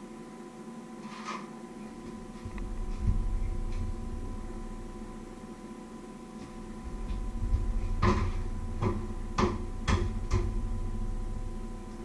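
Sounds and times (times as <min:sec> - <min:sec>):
faint appliance hum: 0:00.0 - 0:12.0.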